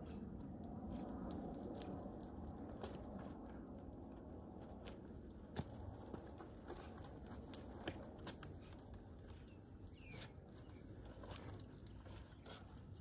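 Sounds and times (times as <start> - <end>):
low outdoor rumble: 0.0 - 13.0
small clicks and patters: 0.6 - 13.0.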